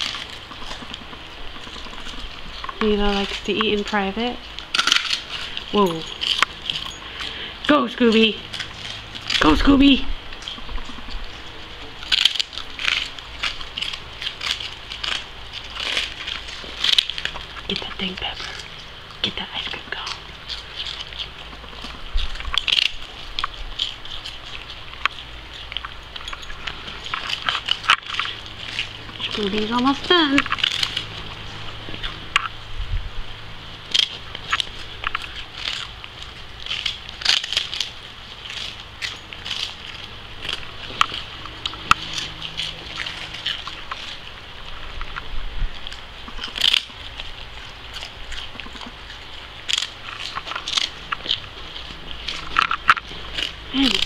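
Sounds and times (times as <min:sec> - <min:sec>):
dogs crunching wafer cones: 0:00.0 - 0:54.0.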